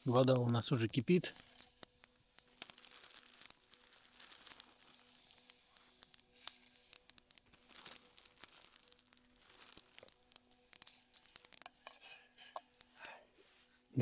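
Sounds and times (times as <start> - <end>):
packet crinkling and tearing: 0.0 - 13.2.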